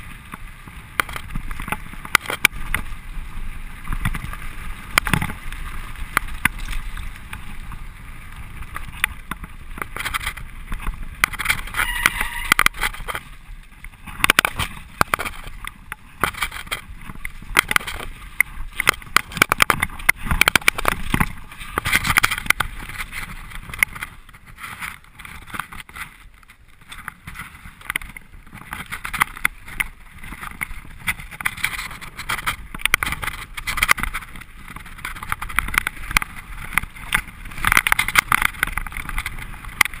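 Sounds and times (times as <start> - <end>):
bike rattling and knocking: 0.0 - 40.0
tyres on loose dirt: 0.0 - 40.0.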